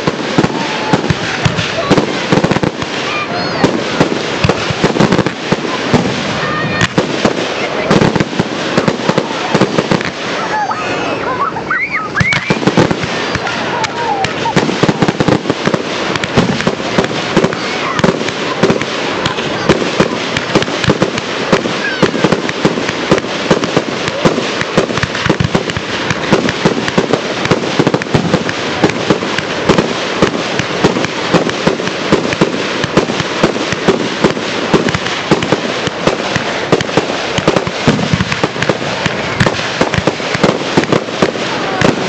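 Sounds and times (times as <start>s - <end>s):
firework shell bursts and crackling: 0.0s - 10.8s, 12.1s - 42.0s
sharp firework bangs: 0.0s - 11.4s, 12.1s - 42.0s.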